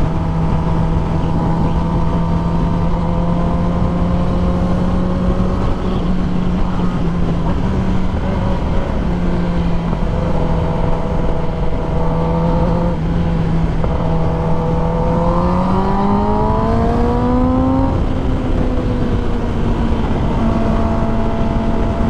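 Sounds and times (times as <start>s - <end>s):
heavy wind rush: 0.0s - 22.0s
motorcycle engine running: 0.0s - 22.0s.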